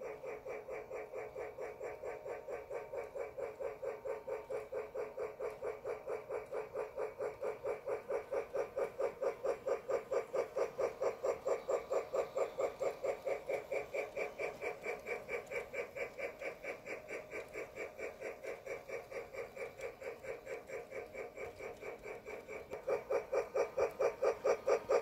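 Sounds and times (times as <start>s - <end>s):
toy train running on track: 0.0s - 25.0s.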